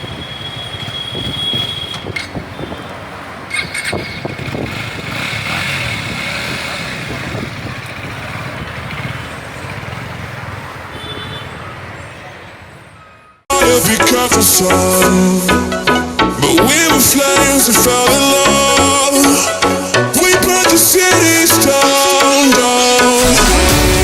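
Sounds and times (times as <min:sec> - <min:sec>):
traffic rushing din: 0:00.0 - 0:24.0.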